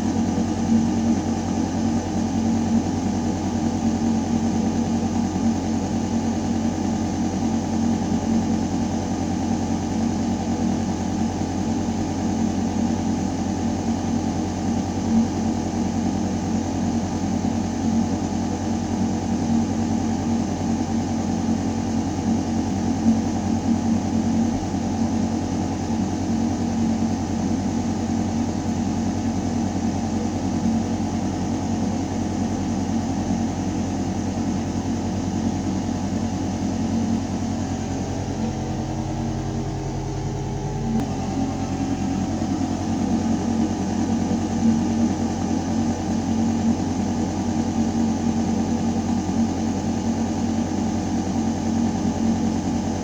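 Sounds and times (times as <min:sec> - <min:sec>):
ventilation hum: 0:00.0 - 0:53.0.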